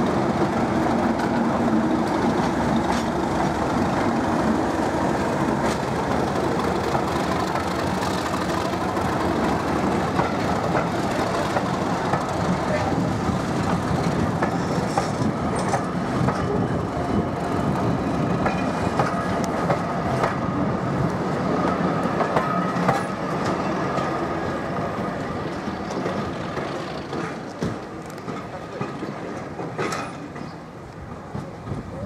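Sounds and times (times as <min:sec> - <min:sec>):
train wheels clacking over rail joints: 0:00.4 - 0:24.1, 0:25.8 - 0:32.0.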